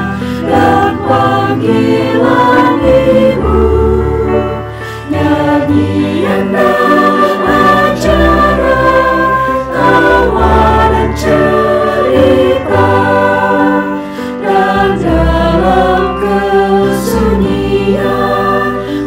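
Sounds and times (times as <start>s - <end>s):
mixed choir singing in harmony: 0.0s - 19.0s.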